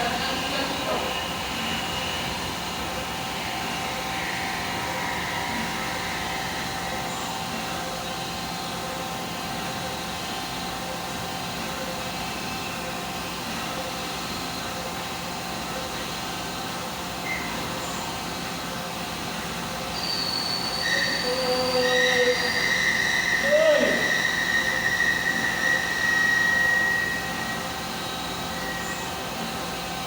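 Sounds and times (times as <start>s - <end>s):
machine whirring with steady tones: 0.0s - 30.0s.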